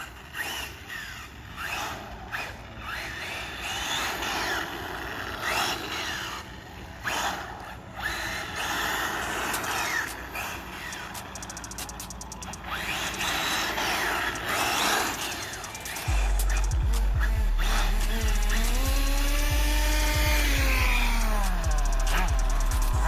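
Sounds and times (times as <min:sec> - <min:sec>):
radio-controlled car motors whining: 0:00.0 - 0:23.0.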